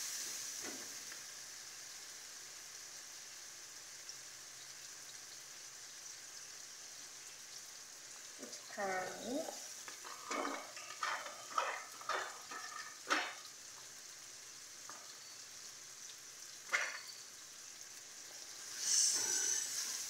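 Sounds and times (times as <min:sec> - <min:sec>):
food frying in a pan: 0:00.0 - 0:20.0.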